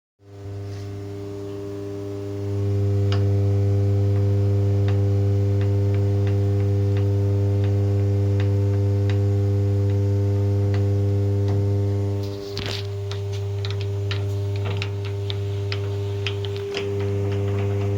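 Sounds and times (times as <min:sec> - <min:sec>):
table saw motor humming: 0:00.2 - 0:17.9.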